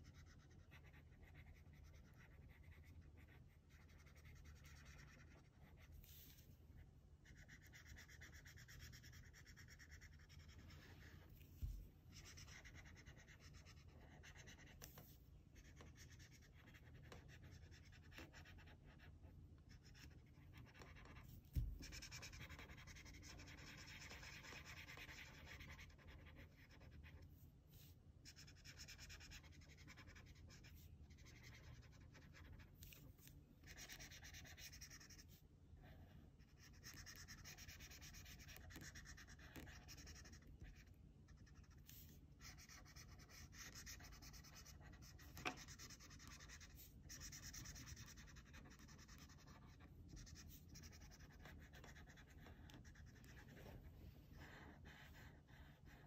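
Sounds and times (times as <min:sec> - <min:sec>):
marker scratching on paper: 0:00.0 - 0:06.5, 0:07.2 - 0:56.0.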